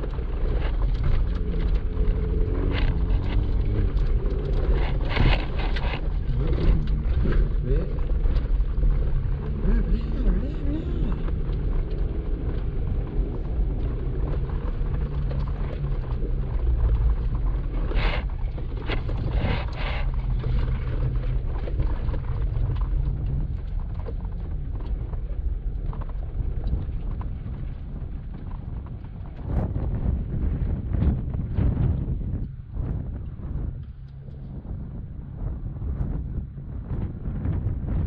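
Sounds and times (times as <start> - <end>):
off-road vehicle engine running low: 0.0 - 38.0.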